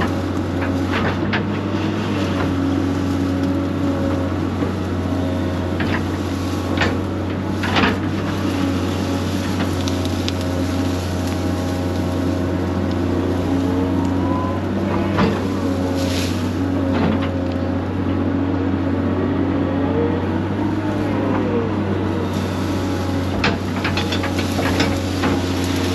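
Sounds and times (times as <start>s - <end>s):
diesel engine running: 0.0s - 25.9s
hydraulic whine: 0.0s - 25.9s.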